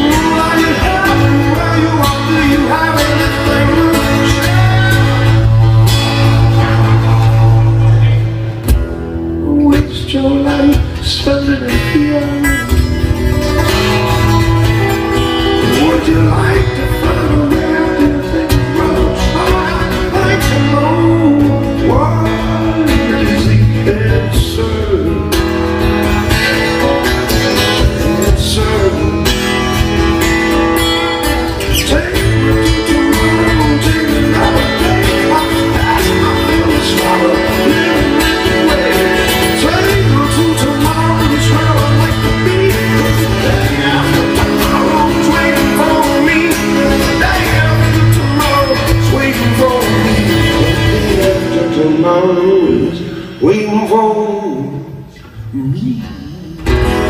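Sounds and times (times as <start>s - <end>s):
acoustic guitars playing: 0.0s - 57.0s.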